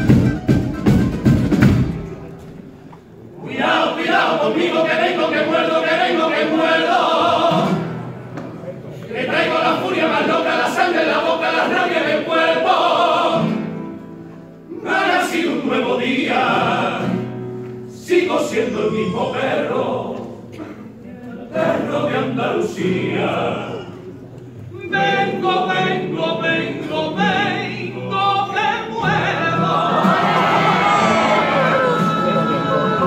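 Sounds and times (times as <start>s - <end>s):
chorus singing in harmony: 3.3s - 8.2s, 9.0s - 14.0s, 14.7s - 33.0s.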